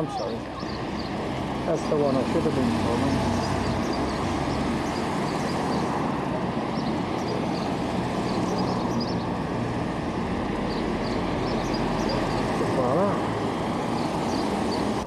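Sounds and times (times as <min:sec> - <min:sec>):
road traffic rumble and hiss: 0:00.0 - 0:15.0.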